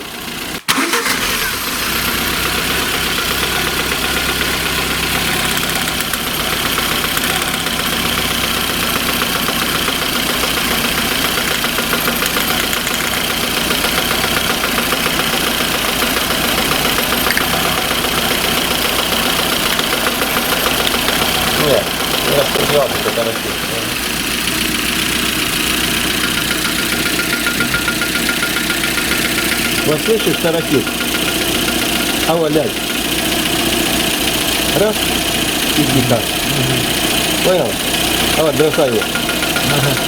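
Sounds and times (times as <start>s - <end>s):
car engine idling with knock: 0.0s - 40.0s.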